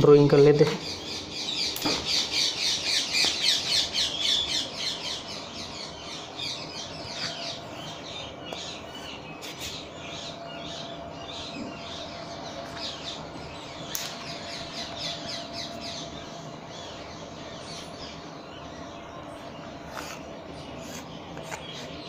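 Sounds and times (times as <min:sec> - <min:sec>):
faint steady hum: 0:00.0 - 0:22.0
small birds chirping: 0:00.1 - 0:22.0.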